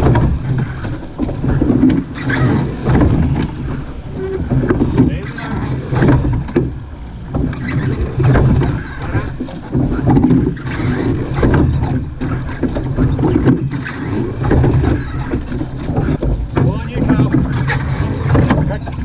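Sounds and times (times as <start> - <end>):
oars knocking and splashing: 0.0 - 19.0
water rushing under hull: 0.0 - 19.0.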